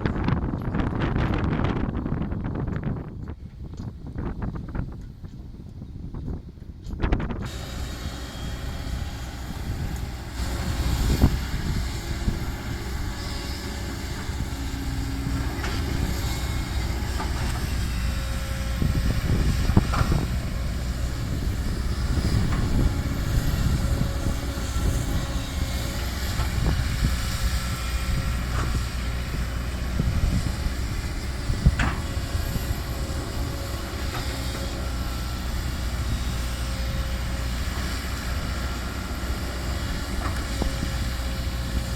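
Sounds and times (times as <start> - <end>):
truck engine rumbling: 7.3 - 41.9.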